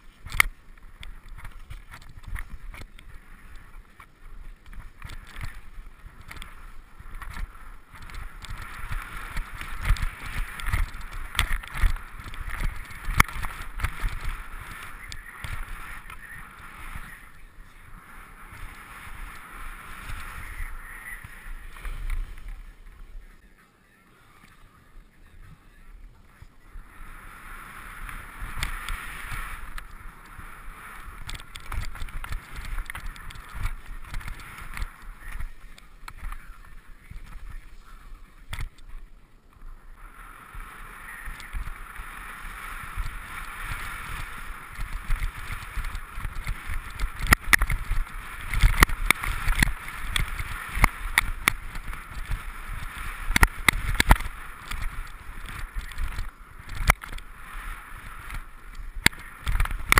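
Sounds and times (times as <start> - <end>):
skis hissing over snow: 0.0 - 59.9
wind rumbling on microphone: 0.0 - 59.9.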